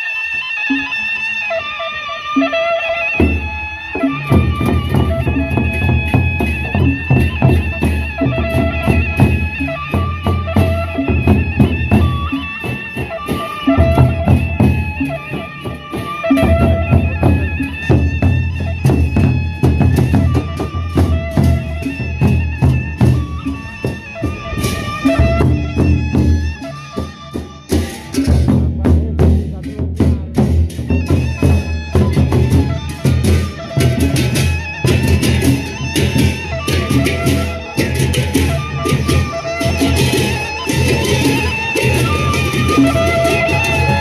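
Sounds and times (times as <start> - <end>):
cymbals: 0.0 - 44.0
held melody line: 0.0 - 44.0
barrel drums beating: 3.2 - 44.0.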